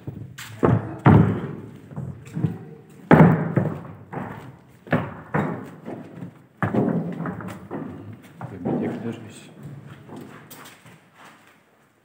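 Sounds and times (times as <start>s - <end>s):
heavy thuds echoing: 0.0s - 10.2s
smaller knocks: 0.0s - 10.6s.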